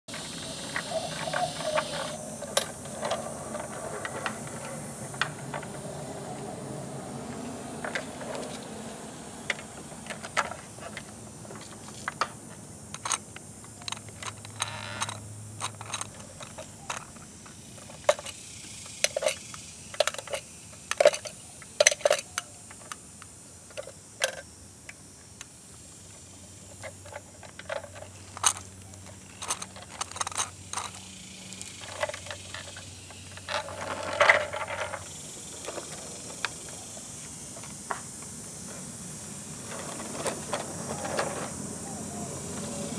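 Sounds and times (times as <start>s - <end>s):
toy carts clicking and rattling: 0.1s - 23.1s, 23.7s - 24.4s, 26.6s - 38.0s, 39.6s - 41.6s.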